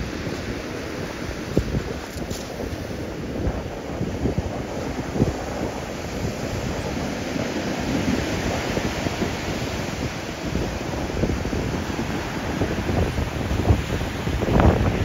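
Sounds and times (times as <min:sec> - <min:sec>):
surf breaking on shingle beach: 0:00.0 - 0:15.0
wind buffeting microphone: 0:00.0 - 0:15.0.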